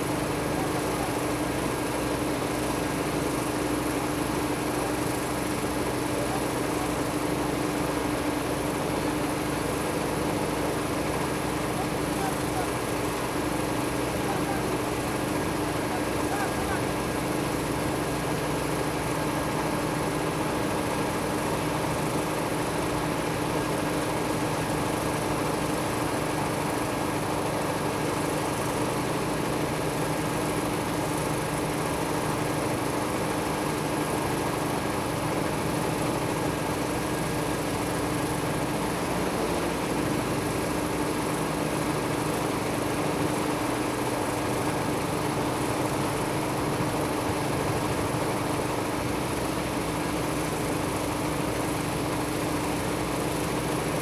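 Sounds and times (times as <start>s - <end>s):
engine idling hum: 0.0s - 54.0s.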